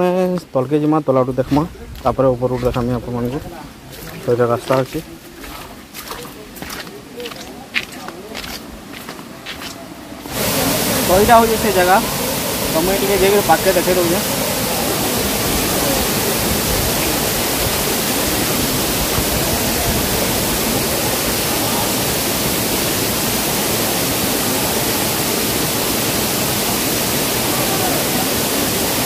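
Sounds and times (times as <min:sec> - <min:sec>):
waterfall rushing: 0:00.8 - 0:29.0.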